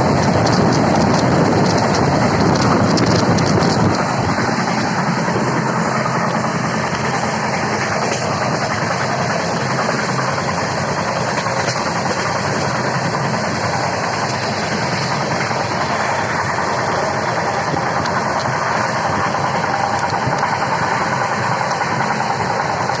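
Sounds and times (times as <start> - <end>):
low engine hum: 0.0 - 23.0
train running: 0.0 - 23.0.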